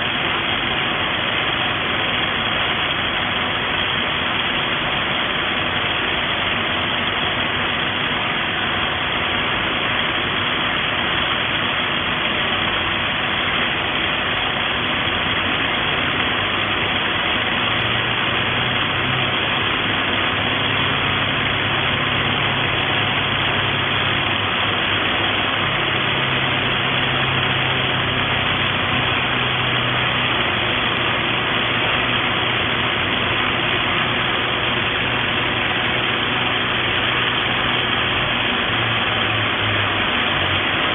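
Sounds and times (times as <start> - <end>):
low hum: 0.0 - 40.9.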